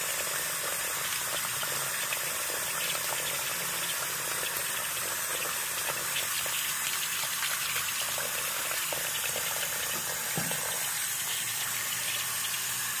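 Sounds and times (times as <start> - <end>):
tap water running into a basin: 0.0 - 13.0.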